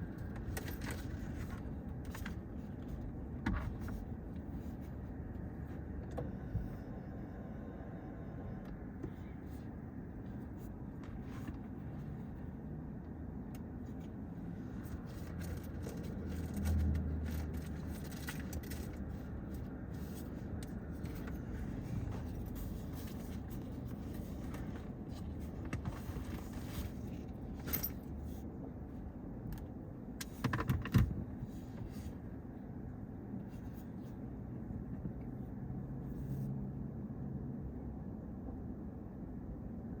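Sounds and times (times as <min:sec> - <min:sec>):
car engines in traffic: 0:00.0 - 0:40.0.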